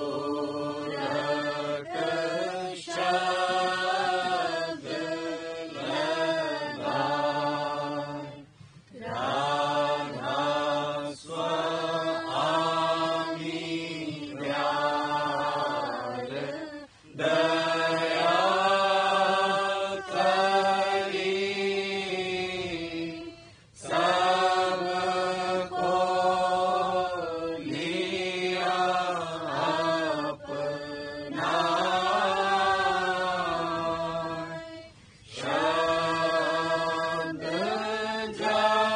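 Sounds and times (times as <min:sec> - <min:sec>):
devotional hymn chanting: 0:00.0 - 0:38.9.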